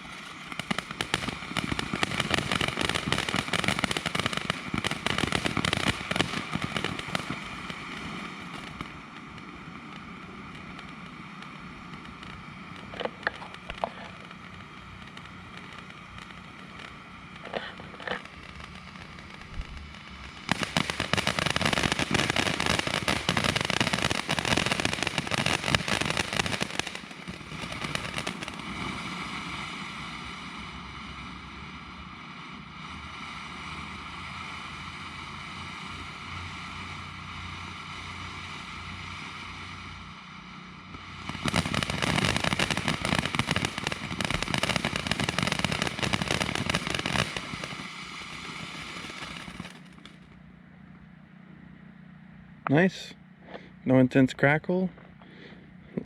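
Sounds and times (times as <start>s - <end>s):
firework sharp pops: 0.0s - 30.8s, 35.4s - 50.4s
firework fizzing crackle: 0.0s - 50.5s
firework fountain hiss: 0.0s - 50.5s.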